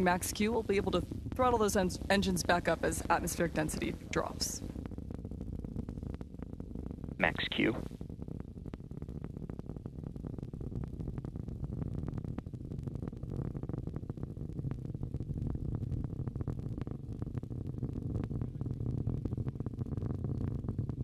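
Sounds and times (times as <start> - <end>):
rocket engines rumbling and crackling: 0.0 - 21.0.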